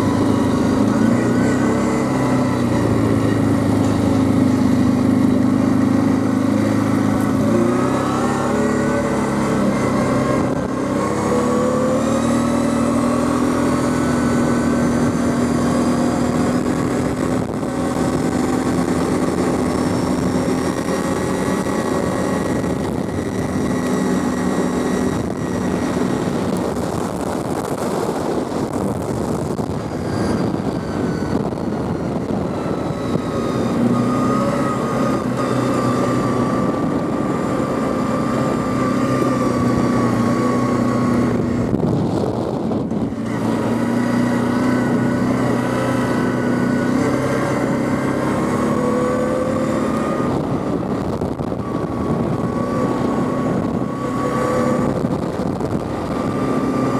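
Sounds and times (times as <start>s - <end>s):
quad bike engine running: 0.0s - 56.9s.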